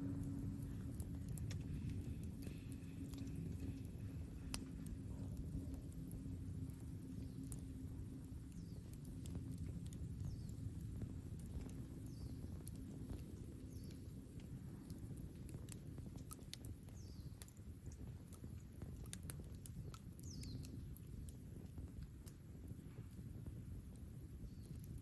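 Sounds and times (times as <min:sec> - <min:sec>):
campfire crackling and popping: 0:00.0 - 0:25.0
low steady rumble: 0:00.0 - 0:25.0.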